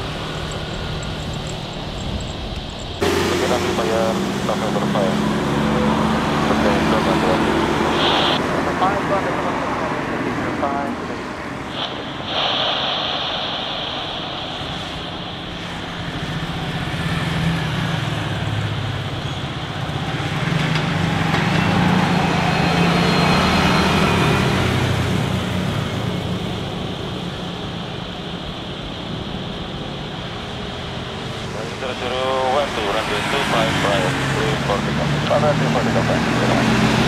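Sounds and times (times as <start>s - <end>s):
jet engines whining and rumbling: 0.0s - 37.0s.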